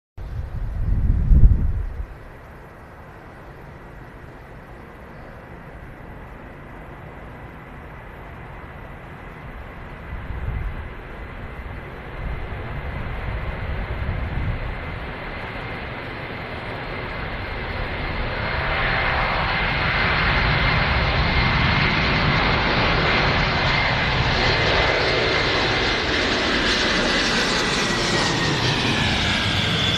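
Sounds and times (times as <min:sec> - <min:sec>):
jet engines at takeoff power: 0:00.3 - 0:29.9.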